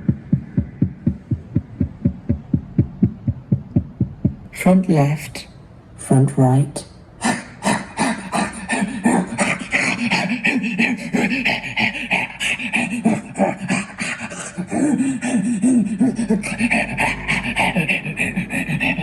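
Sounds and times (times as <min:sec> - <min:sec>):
rhythmic breathy pulses: 0:00.0 - 0:04.6, 0:07.2 - 0:19.0.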